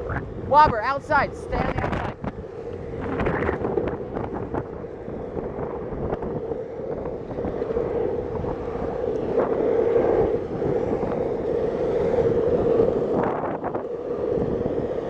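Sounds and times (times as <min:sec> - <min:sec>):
longboard wheels rolling on asphalt: 0:00.0 - 0:15.0
wind buffeting microphone: 0:00.0 - 0:15.0.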